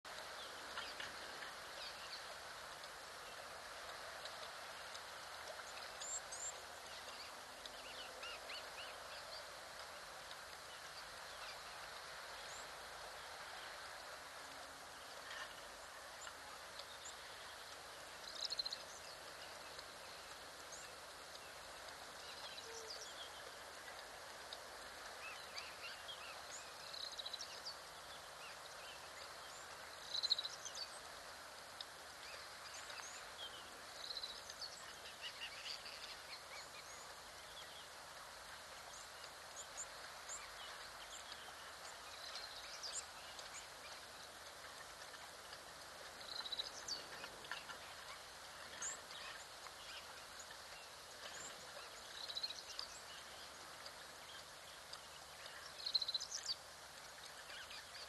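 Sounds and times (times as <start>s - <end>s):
low outdoor hiss: 0.0s - 58.0s.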